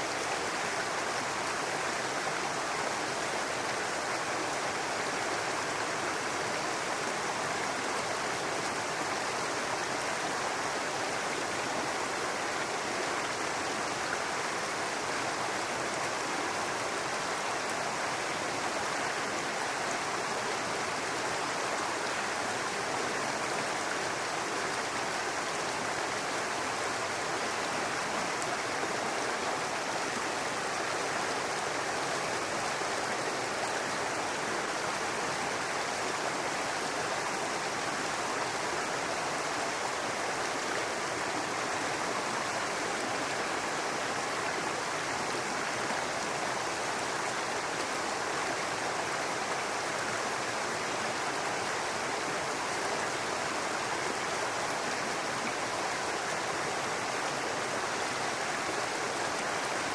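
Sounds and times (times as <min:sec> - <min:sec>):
brook babbling over rocks: 0:00.0 - 0:59.9.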